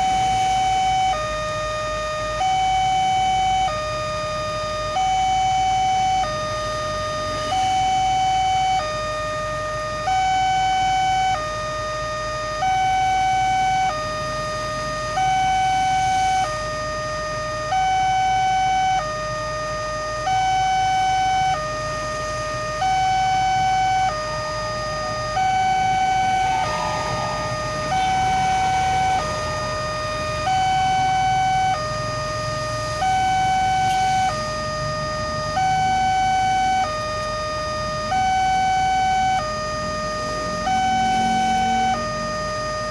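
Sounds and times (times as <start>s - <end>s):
level crossing two-tone alarm: 0.0s - 42.9s.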